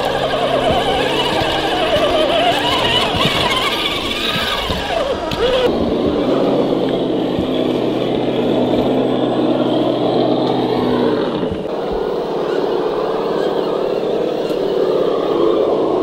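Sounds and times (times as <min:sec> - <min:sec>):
electric motor and gearbox whirring: 0:00.0 - 0:16.0.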